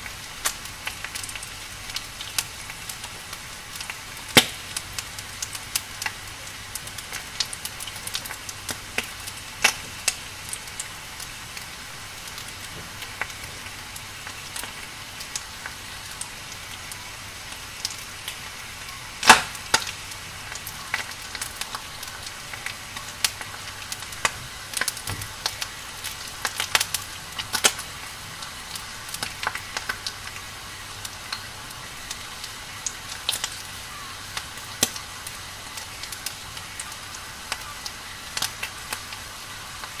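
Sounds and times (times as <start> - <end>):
firewood crackling and popping: 0.0 - 40.0
steady fire hiss: 0.0 - 40.0.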